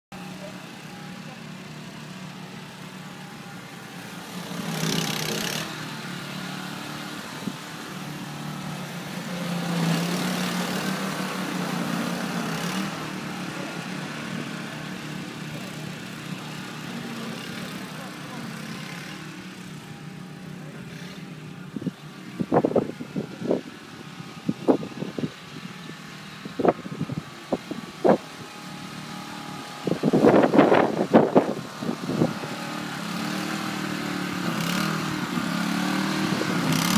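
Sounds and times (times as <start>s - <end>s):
snowblower engine running: 0.2s - 36.9s.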